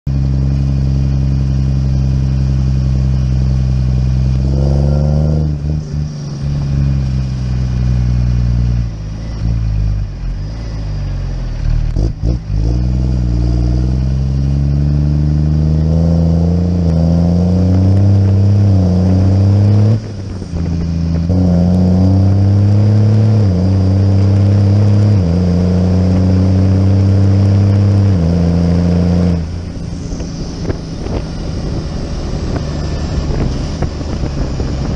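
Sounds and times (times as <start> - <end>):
tractor diesel engine revving: 0.1 - 34.9.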